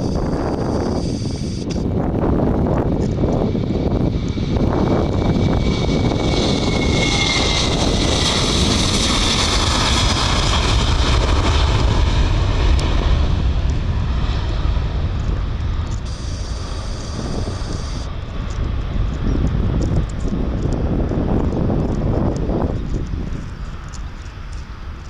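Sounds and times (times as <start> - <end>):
jet engines rumbling and whining: 0.0 - 25.0.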